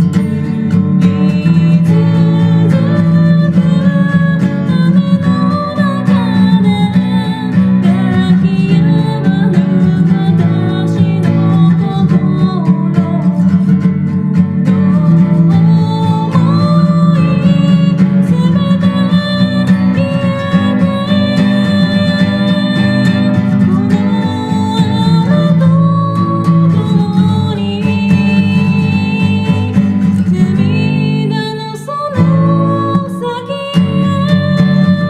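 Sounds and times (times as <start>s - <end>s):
acoustic guitar strumming: 0.0s - 35.0s
person singing: 1.0s - 35.0s.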